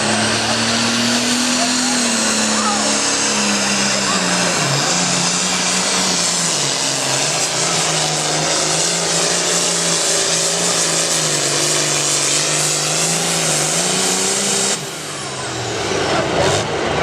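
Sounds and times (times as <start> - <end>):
tractor engine drone at full throttle: 0.0 - 17.0.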